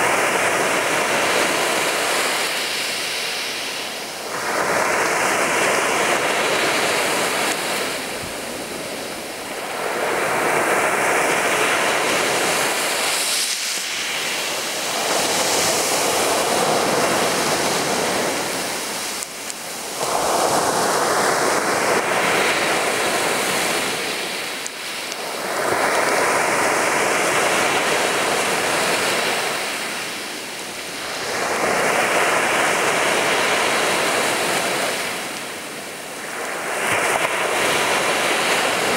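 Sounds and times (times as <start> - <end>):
sea waves breaking on beach: 0.0 - 38.9.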